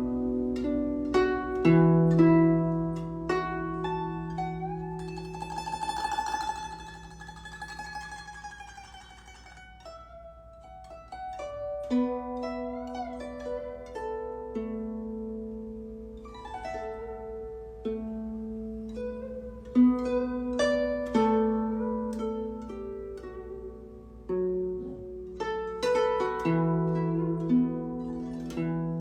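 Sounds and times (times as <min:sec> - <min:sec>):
zither plucked notes: 0:00.0 - 0:29.0.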